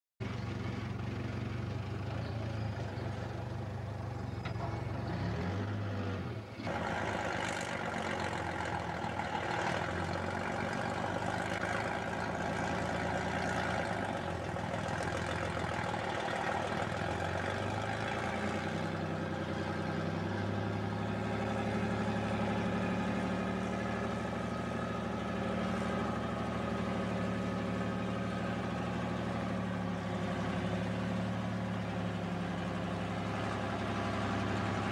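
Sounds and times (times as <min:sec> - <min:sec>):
diesel truck engine running: 0:00.2 - 0:34.9.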